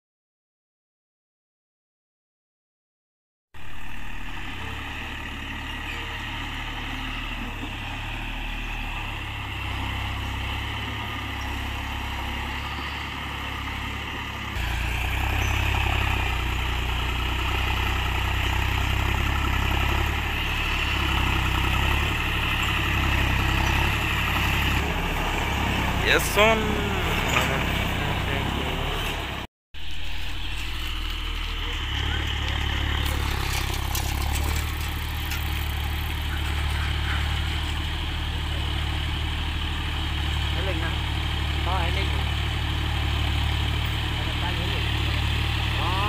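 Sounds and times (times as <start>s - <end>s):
tractor diesel engine running: 3.6s - 46.0s.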